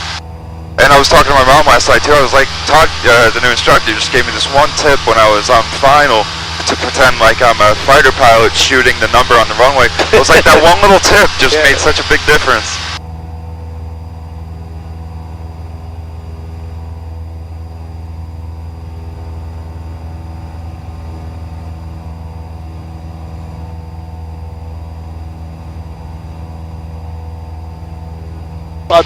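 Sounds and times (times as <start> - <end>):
aircraft engine and propeller droning: 0.0 - 29.0.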